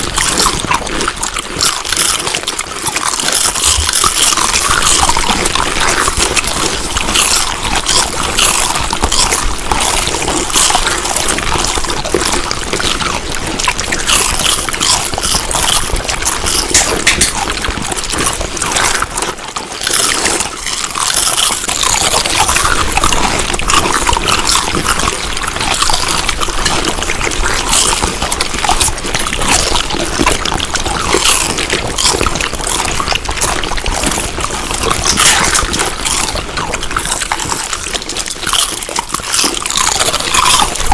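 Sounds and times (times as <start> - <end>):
wet chewing of food: 0.0 - 40.9.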